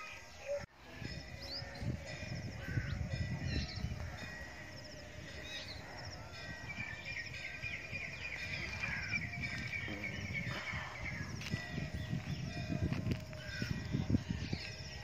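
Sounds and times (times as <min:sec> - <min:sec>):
bird long wavering song: 0:00.0 - 0:15.0
small birds chirping: 0:00.0 - 0:15.0.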